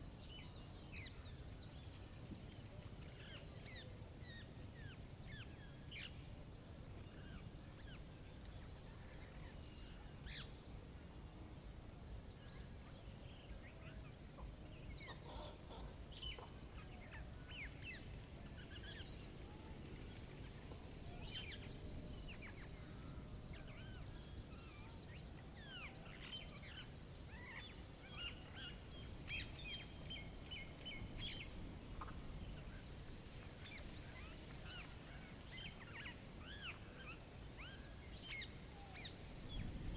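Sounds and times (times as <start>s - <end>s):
faint low rumble: 0.0s - 39.9s.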